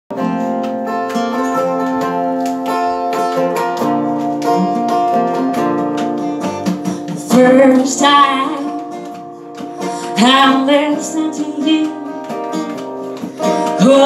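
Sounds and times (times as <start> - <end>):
acoustic guitars playing: 0.1 - 14.0.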